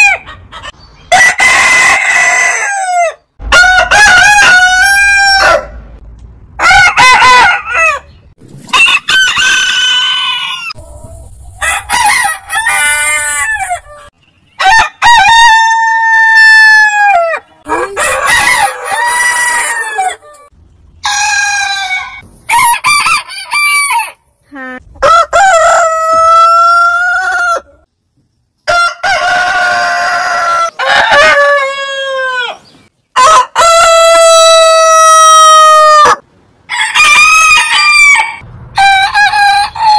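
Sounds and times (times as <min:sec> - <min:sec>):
roosters crowing: 0:00.0 - 0:05.9, 0:06.6 - 0:24.3, 0:24.9 - 0:27.9, 0:28.6 - 0:39.9.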